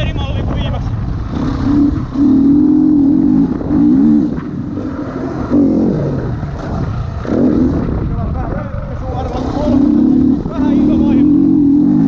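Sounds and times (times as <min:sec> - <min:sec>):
motocross bike engine revving: 0:00.4 - 0:12.0.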